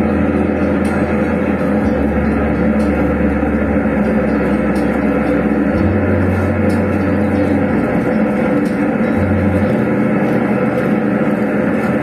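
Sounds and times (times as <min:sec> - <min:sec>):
deep bass note: 0:00.0 - 0:12.0
loud distorted sound system: 0:00.0 - 0:12.0.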